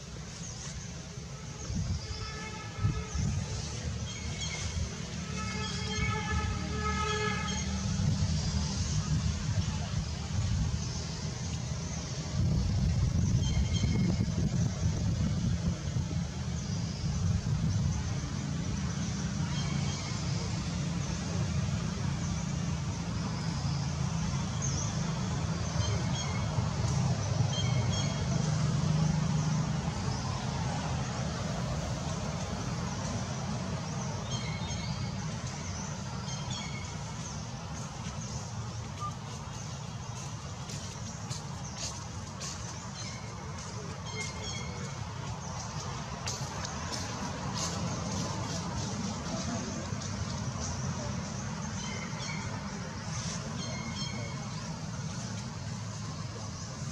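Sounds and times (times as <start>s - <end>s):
engine running nearby: 0.0s - 56.9s
low rumble of traffic: 0.0s - 56.9s.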